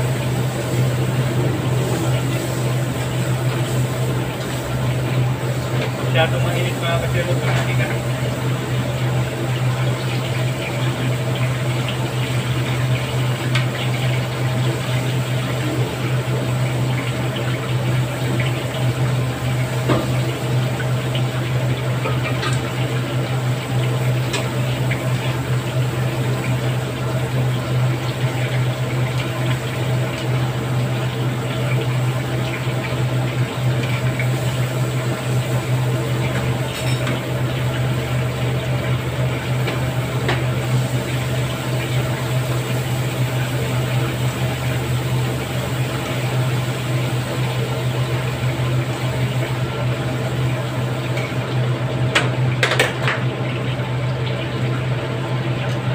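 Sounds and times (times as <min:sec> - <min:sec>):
chicken deep-frying in oil: 0:00.0 - 0:55.9
constant low hum: 0:00.0 - 0:55.9.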